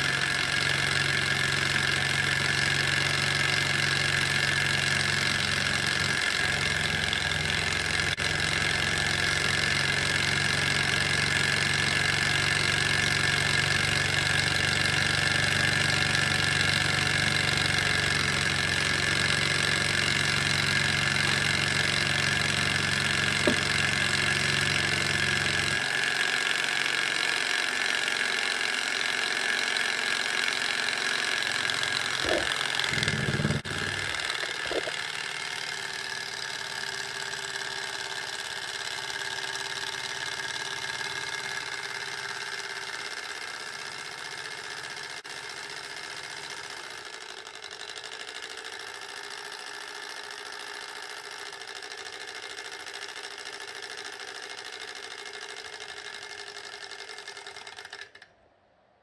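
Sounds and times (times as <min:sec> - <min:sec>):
small engine and plastic gears running: 0:00.0 - 0:58.6.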